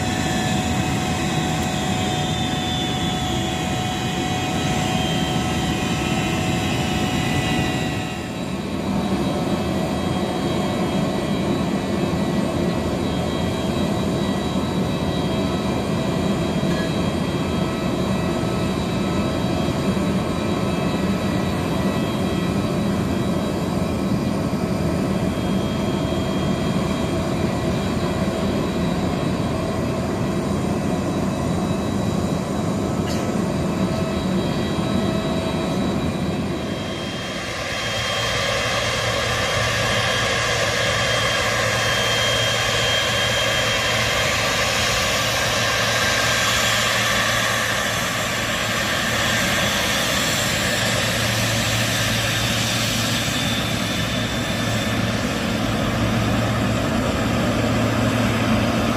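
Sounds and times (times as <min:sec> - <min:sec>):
jet aircraft hum with whining tones: 0:00.0 - 0:58.9
jet engines taxiing: 0:00.0 - 0:58.9.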